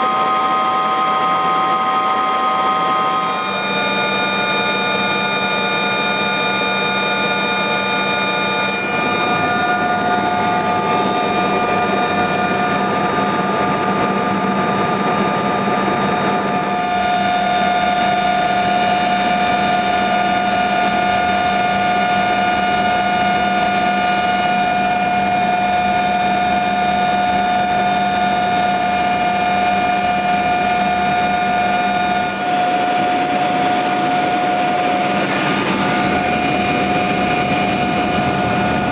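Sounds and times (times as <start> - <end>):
aircraft engines droning in cabin: 0.0 - 38.9.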